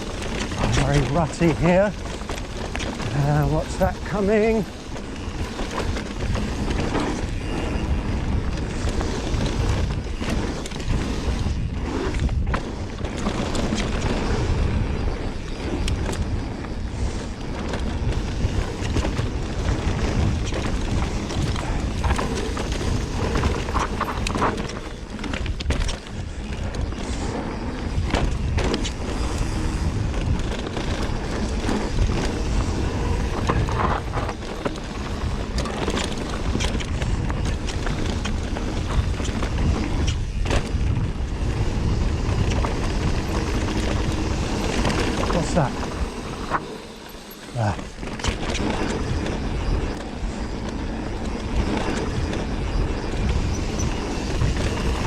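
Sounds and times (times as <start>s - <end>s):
bike clattering: 0.0s - 55.0s
tyres rolling over dirt: 0.0s - 55.0s
wind rumble on microphone: 0.0s - 55.0s.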